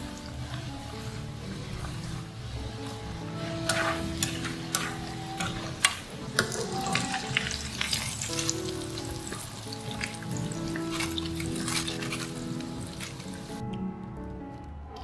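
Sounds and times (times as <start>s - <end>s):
chopsticks turning food in oil: 0.0s - 13.6s
deep-frying sizzle with pops: 0.0s - 13.6s.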